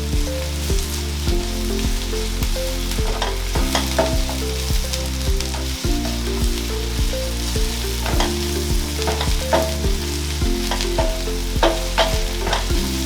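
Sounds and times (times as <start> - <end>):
onions sizzling in a frying pan: 0.0 - 13.0.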